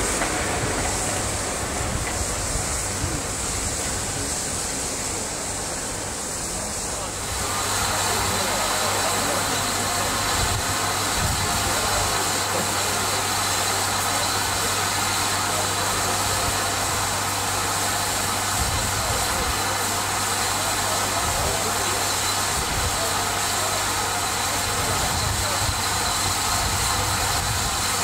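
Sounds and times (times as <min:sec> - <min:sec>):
steam hissing from boiler: 0:00.0 - 0:28.0.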